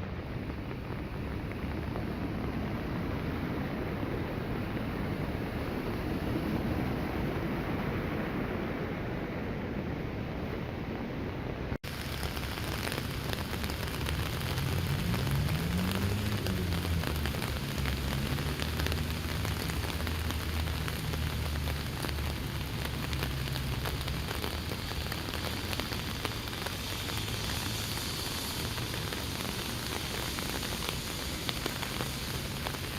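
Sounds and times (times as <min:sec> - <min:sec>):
heavy rain on hard surfaces: 0:00.0 - 0:32.9.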